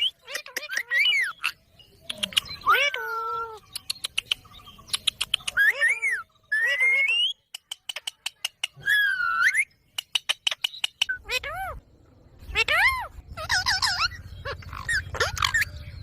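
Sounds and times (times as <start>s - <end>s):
parrot calling: 0.0s - 4.2s, 5.0s - 11.8s, 12.4s - 16.0s.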